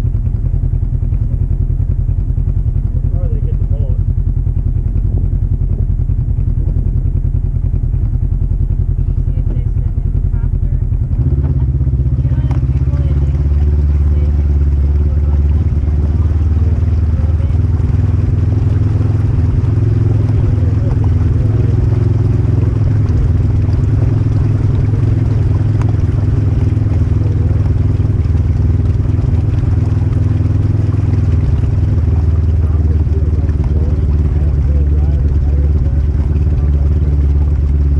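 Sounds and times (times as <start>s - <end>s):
engine running steadily: 0.0s - 37.9s.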